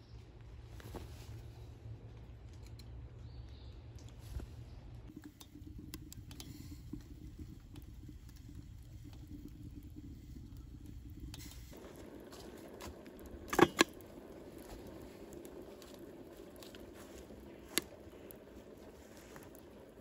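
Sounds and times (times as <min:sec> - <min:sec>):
wood fire crackling: 0:00.4 - 0:20.0.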